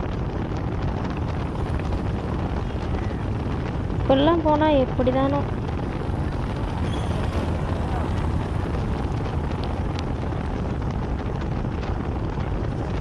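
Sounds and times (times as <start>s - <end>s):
vehicle road noise: 0.0s - 13.0s
wind rumble on microphone: 0.0s - 13.0s.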